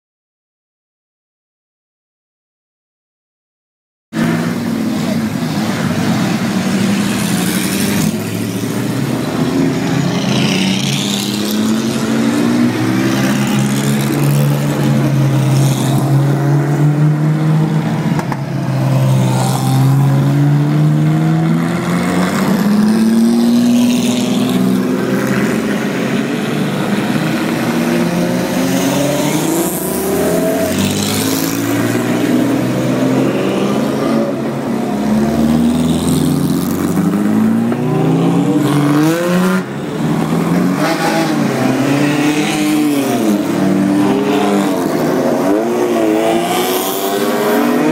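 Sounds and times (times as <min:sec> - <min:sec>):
racing car engines revving past: 0:04.2 - 0:47.9.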